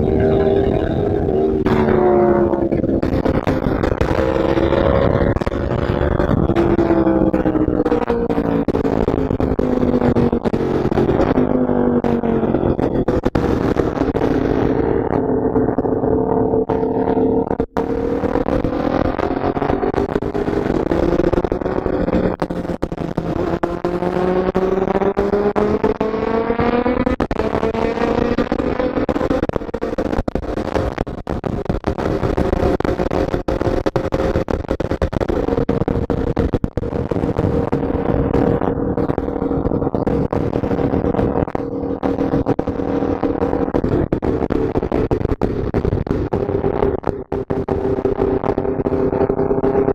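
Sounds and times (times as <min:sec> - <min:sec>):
motorcycle engine cruising: 0:00.0 - 0:35.7, 0:36.8 - 0:49.9.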